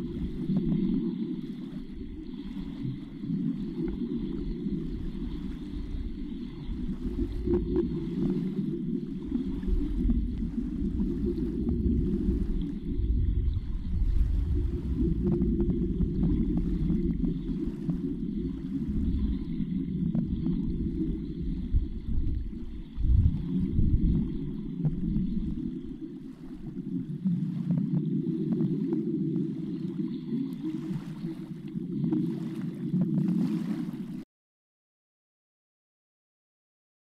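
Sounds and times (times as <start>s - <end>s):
muffled underwater rumble: 0.0s - 34.2s.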